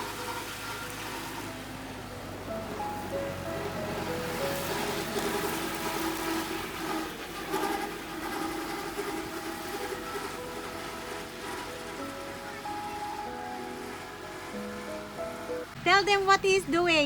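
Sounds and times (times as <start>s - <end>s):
background music: 0.0s - 17.0s
tractor running: 0.0s - 17.0s.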